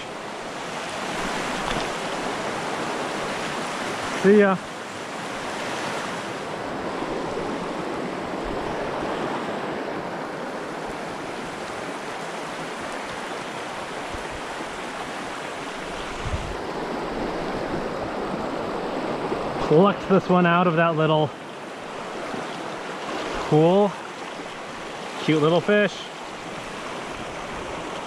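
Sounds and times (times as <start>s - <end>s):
creek rushing over rocks: 0.0s - 28.0s.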